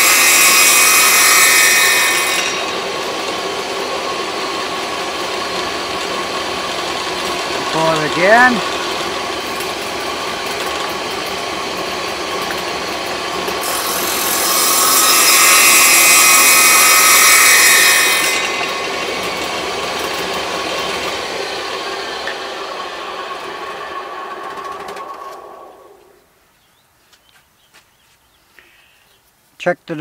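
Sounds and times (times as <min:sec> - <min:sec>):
table saw cutting wood: 0:00.0 - 0:26.1.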